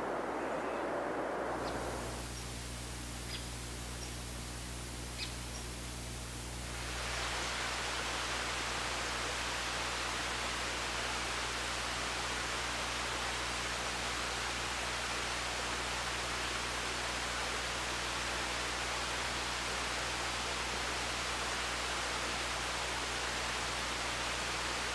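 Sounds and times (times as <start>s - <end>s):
steady hiss: 0.0s - 24.9s.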